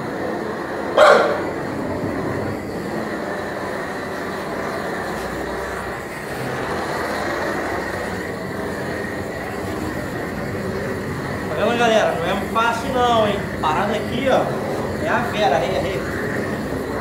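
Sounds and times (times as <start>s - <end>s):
blowtorch flame rushing: 0.0s - 17.0s.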